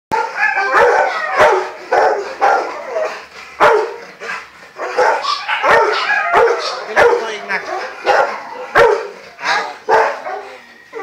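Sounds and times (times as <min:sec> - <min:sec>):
dog barking and yipping: 0:00.1 - 0:11.0.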